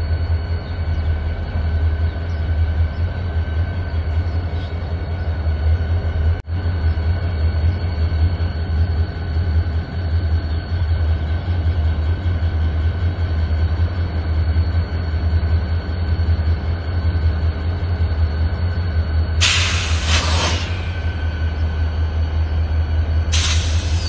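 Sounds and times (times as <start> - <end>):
locomotive engine rumble: 0.0 - 24.0.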